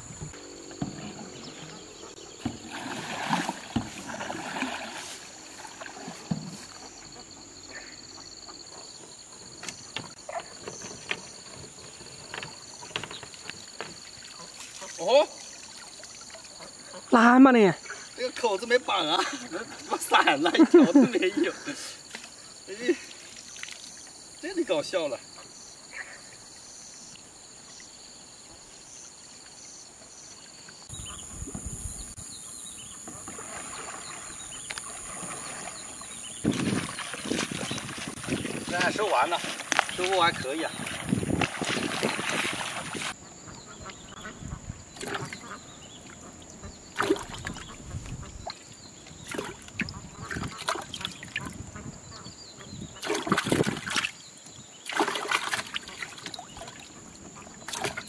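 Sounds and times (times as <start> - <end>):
water sounds: 0.0 - 25.3, 33.0 - 51.8, 53.0 - 58.0
insect trill: 0.0 - 58.0.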